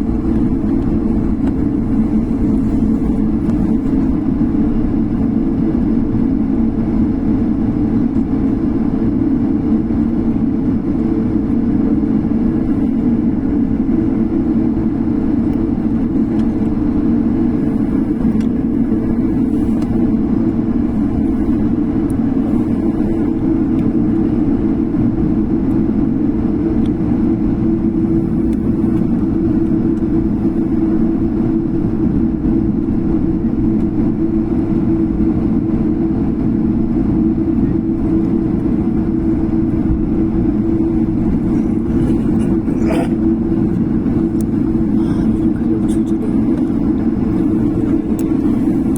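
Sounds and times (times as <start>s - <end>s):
jet airliner engines droning: 0.0s - 48.9s.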